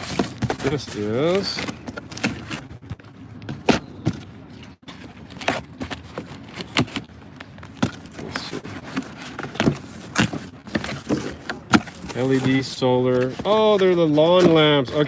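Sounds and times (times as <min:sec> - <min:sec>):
cardboard packaging crinkling: 0:00.0 - 0:03.2, 0:04.8 - 0:15.0.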